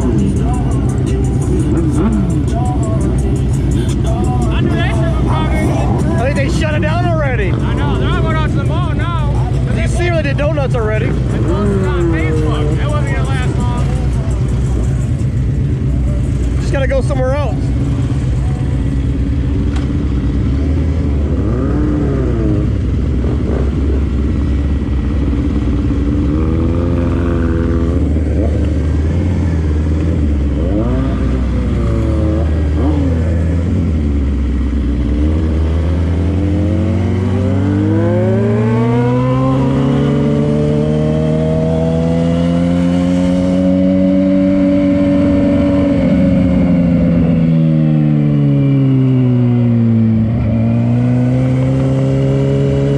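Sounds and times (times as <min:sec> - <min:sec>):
vehicle engine accelerating: 0:00.0 - 0:52.9.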